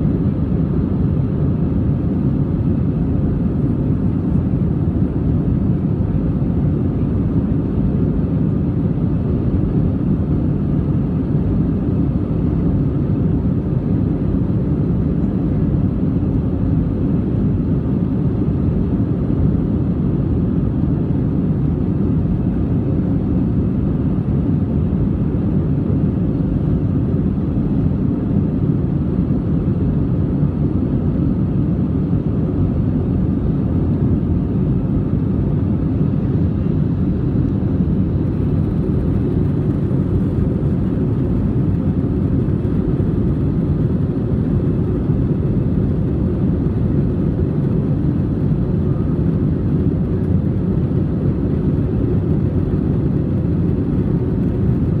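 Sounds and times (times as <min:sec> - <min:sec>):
jet engine cabin roar: 0:00.0 - 0:55.0.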